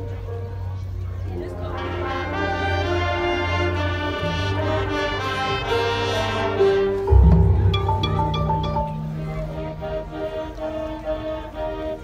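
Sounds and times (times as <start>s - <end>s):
brass band playing chords: 1.4s - 12.0s.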